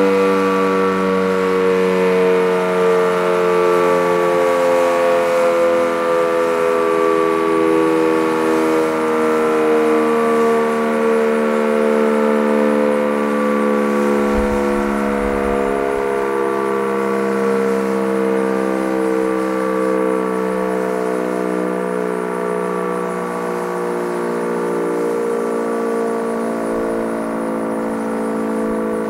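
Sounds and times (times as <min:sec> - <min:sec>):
warning siren steady tone: 0:00.0 - 0:29.0.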